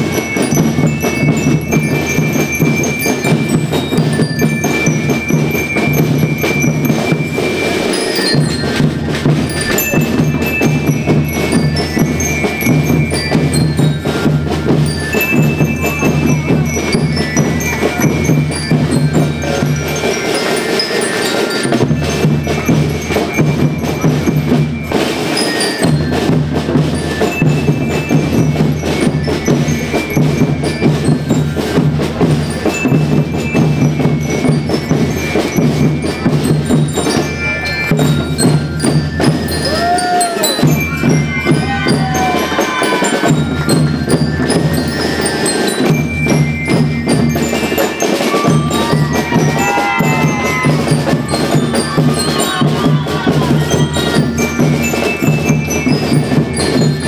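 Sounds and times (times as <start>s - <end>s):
bell-like mallet tones: 0.0s - 57.0s
drums and percussion beat: 0.0s - 57.0s.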